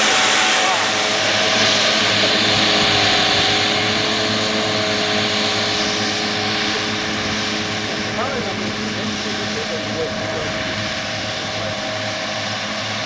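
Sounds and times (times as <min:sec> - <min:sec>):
tractor engine and mower drone: 0:00.0 - 0:13.0.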